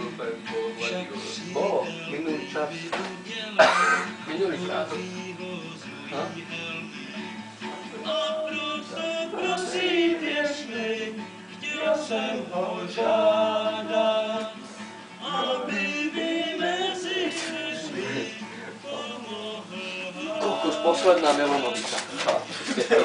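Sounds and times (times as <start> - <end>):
men singing: 0.0 - 23.0.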